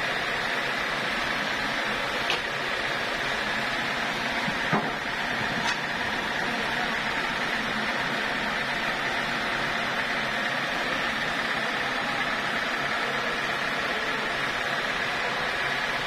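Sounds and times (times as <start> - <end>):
sawmill machinery idling: 0.0 - 16.0.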